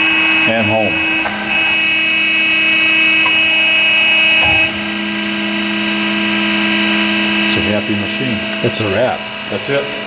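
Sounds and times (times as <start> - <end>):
high whine: 0.0 - 10.0
surface grinder machine hum: 0.0 - 10.0.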